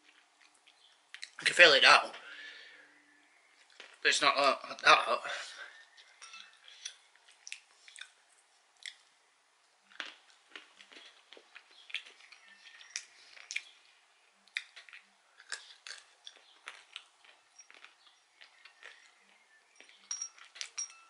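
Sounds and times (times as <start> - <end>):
peanuts being chewed: 0.0 - 1.5, 3.3 - 4.9, 5.6 - 21.0.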